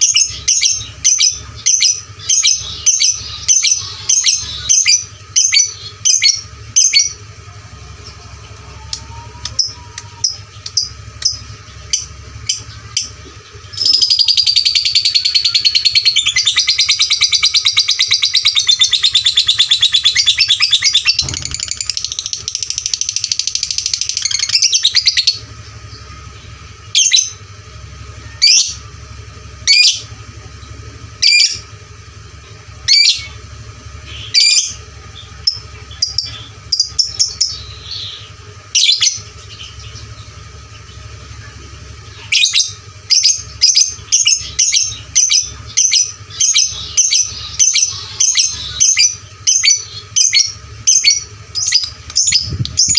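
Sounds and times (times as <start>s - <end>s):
bird chirping and trilling: 0.0s - 52.9s
steady low hum: 0.0s - 52.9s.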